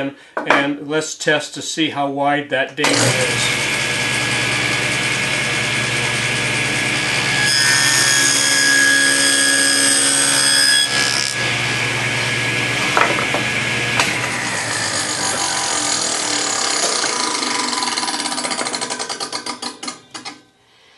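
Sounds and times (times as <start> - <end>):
table saw cutting wood: 2.8 - 20.4.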